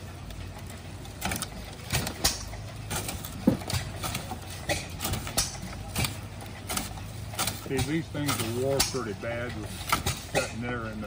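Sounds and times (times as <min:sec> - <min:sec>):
fodder cutter chopping stalks: 0:01.2 - 0:11.0.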